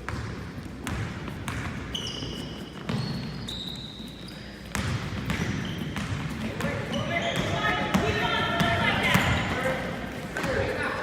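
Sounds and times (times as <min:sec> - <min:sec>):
basketball bouncing on court: 0:00.0 - 0:03.8, 0:04.4 - 0:11.0
sneakers squeaking on floor: 0:00.0 - 0:11.0.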